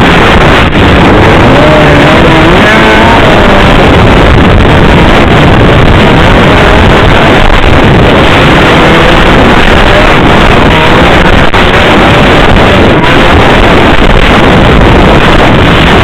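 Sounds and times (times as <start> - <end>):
snowmobile engine running: 0.0 - 16.0
wind buffeting microphone: 0.0 - 16.0.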